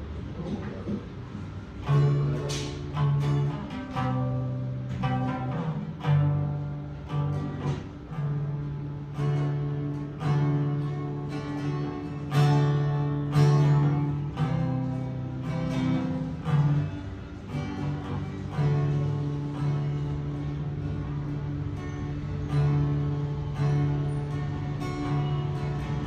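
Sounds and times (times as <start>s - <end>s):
acoustic guitar strumming chords: 0.9s - 26.0s.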